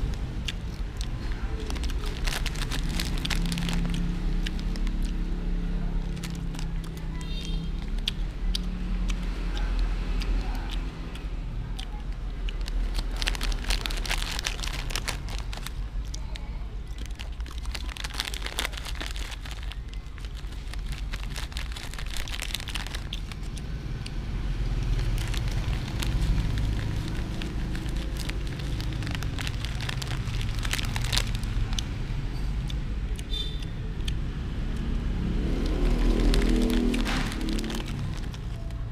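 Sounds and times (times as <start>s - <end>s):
snack bag crinkling: 0.0s - 10.9s, 11.8s - 32.0s, 35.4s - 38.9s.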